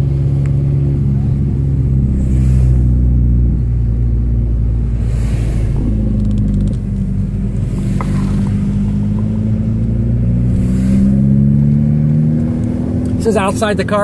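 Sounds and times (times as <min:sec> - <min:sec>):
car engine heard from cabin: 0:00.0 - 0:14.0.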